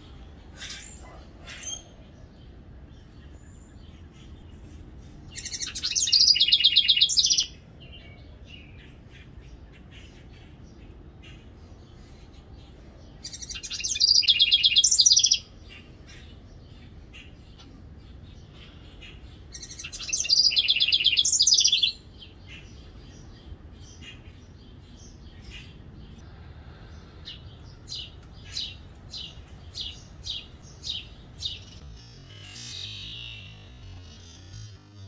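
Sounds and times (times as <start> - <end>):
wren song trills: 0.0 - 35.0.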